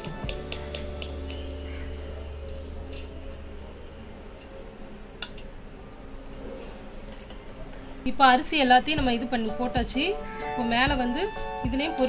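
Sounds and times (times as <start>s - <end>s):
high-pitched whine: 0.0s - 12.0s
low hum: 0.0s - 12.0s.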